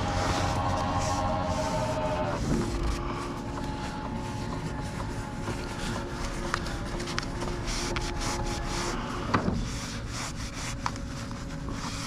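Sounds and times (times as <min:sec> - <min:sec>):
packages rubbing and scraping: 0:00.0 - 0:12.0
steady machine hum: 0:00.0 - 0:12.0.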